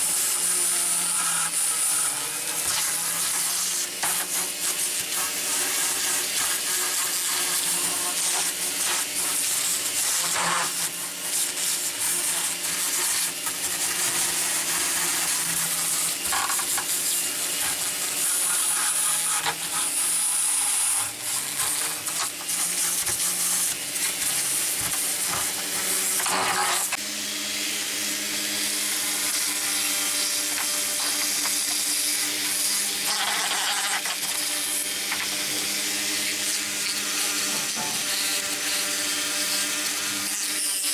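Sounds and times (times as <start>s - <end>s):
power tool scratchy hiss: 0.0s - 40.9s.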